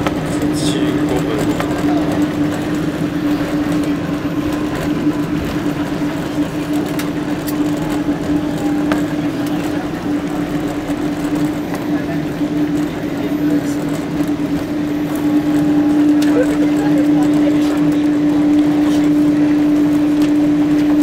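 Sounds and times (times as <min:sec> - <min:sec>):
jet airliner cabin drone: 0:00.0 - 0:21.0.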